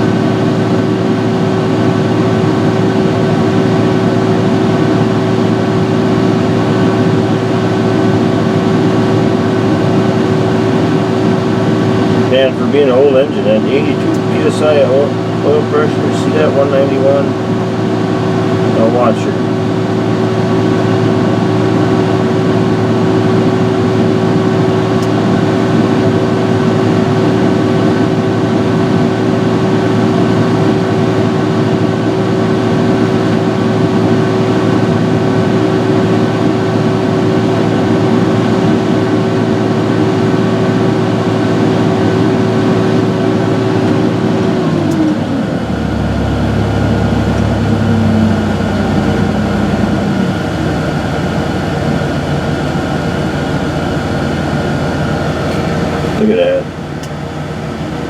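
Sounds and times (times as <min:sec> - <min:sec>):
deep engine rumble: 0:00.0 - 0:58.0
diesel engine running with whine: 0:00.0 - 0:58.0.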